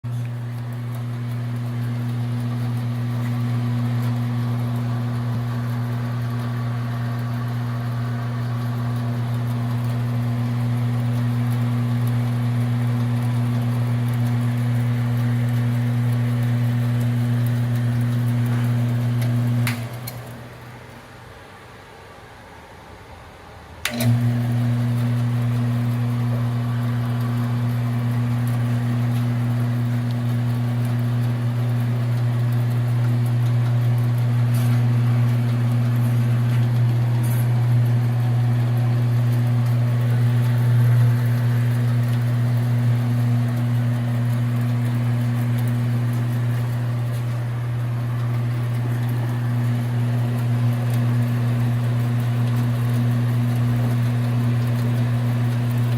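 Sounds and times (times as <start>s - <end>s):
bandsaw motor hum: 0.0s - 20.9s, 23.8s - 55.9s.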